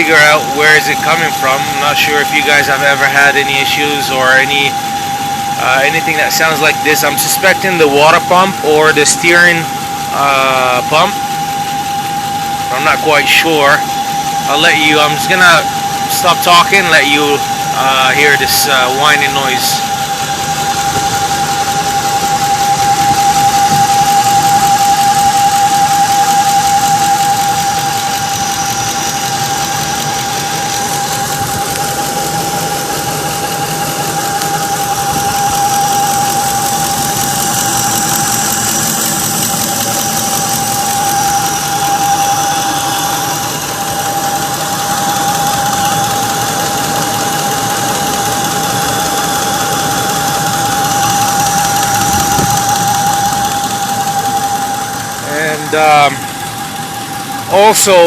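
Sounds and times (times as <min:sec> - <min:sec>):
high-pitched whine: 0:00.0 - 0:58.0
truck engine running: 0:00.0 - 0:58.0.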